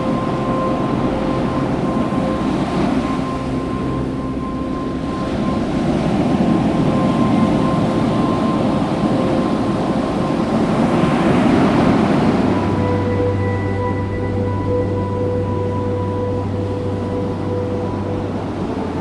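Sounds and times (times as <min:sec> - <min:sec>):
surf rushing: 0:00.0 - 0:19.0
sustained background music tones: 0:00.0 - 0:19.0
wind buffeting the microphone: 0:00.0 - 0:19.0.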